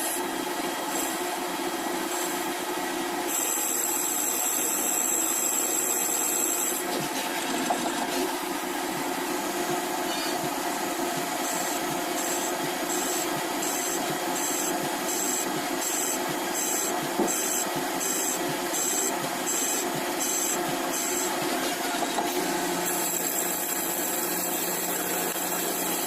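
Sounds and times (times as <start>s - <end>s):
machine running: 3.3s - 26.0s.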